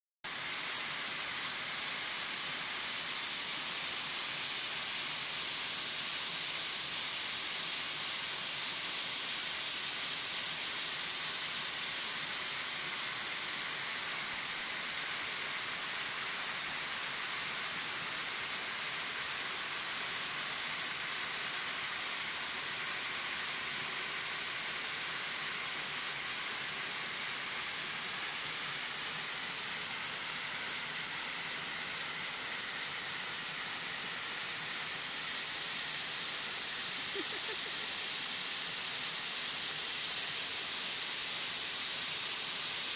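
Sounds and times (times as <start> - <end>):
waterfall pouring over rock: 0.3 - 42.9.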